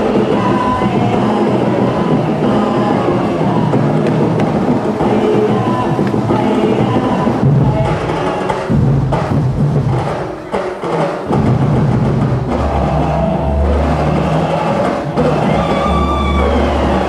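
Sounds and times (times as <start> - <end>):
drum and percussion ensemble: 0.0 - 17.0.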